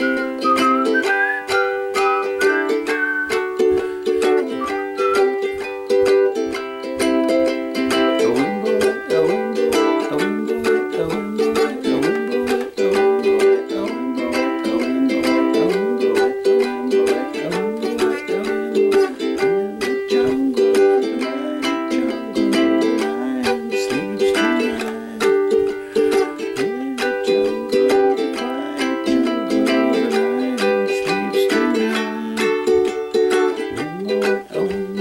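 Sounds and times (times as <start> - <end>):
ukulele strumming: 0.0 - 35.0.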